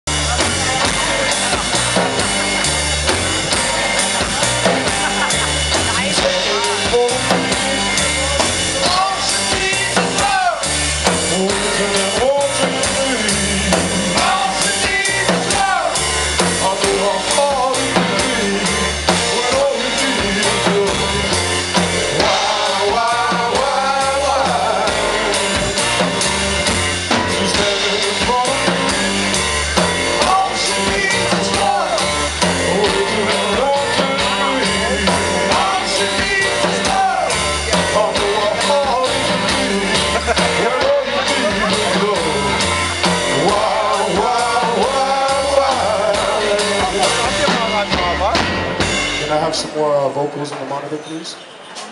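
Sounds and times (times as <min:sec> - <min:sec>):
live rock band playing: 0:00.0 - 0:51.9
person singing: 0:00.1 - 0:48.6.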